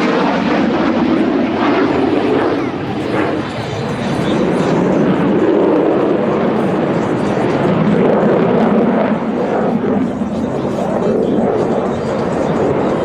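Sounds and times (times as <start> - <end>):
fighter jet roaring: 0.0 - 13.0.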